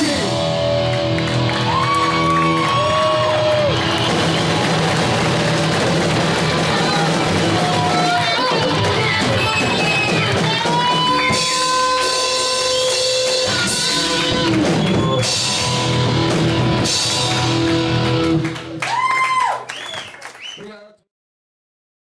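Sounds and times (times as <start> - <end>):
electric guitars: 0.0 - 19.1
drum kit: 0.0 - 19.5.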